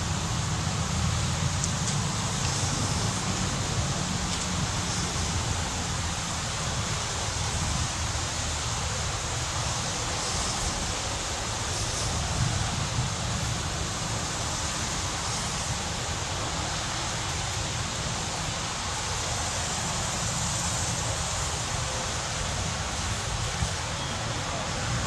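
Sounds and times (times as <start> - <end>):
electric train rushing along track: 0.0 - 25.0
wind rumble on microphone: 0.0 - 25.0.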